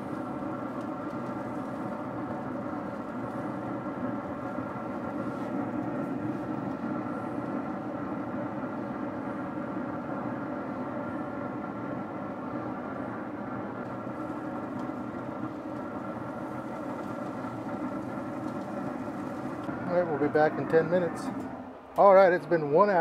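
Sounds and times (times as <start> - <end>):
grill fan humming: 0.0 - 23.0.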